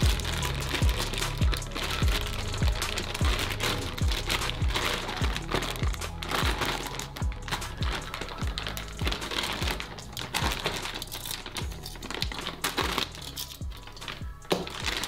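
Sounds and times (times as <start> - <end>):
background music with beat: 0.0 - 15.0
cables being handled: 0.0 - 15.0
plastic bag crinkling: 0.0 - 15.0.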